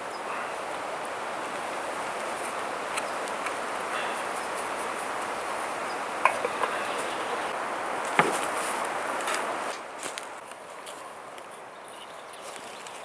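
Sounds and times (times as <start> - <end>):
wood fire hissing: 0.0 - 11.3.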